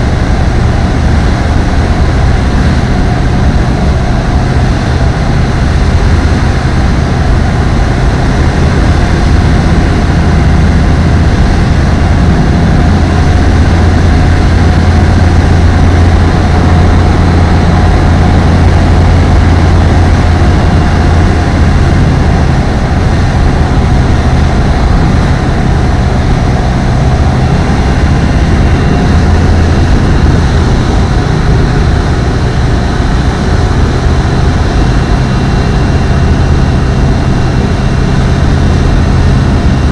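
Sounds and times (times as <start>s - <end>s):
ultralight aircraft engine drone: 0.0s - 39.9s.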